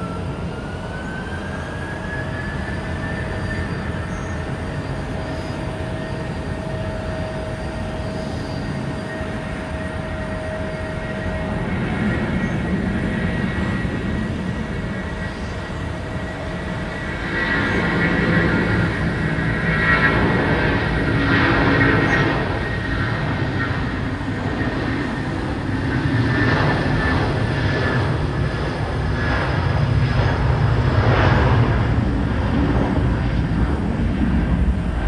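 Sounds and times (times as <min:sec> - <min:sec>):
jet engines whining and rumbling: 0:00.0 - 0:35.0.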